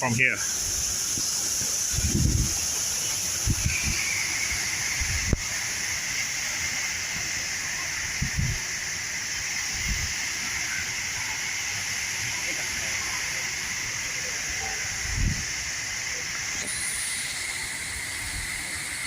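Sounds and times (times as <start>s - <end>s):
indoor waterfall rushing: 0.0s - 19.0s.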